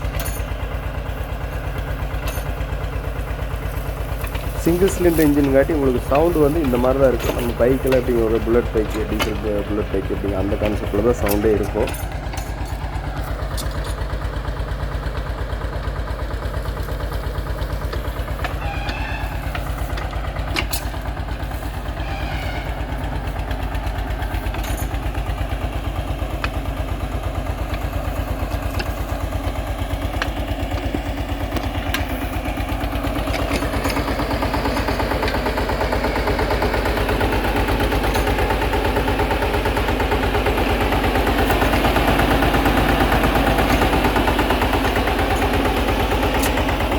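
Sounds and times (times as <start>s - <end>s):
tractor diesel engine thumping: 0.0s - 46.9s.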